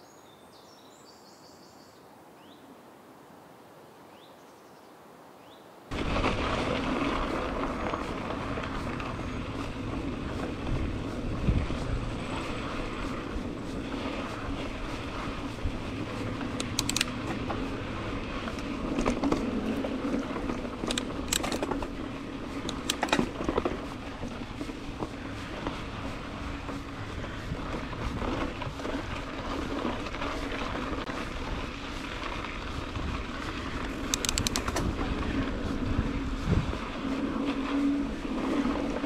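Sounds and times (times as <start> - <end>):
bike clicks and rattles: 5.9 - 37.5
bike tires rolling on dirt: 5.9 - 39.0.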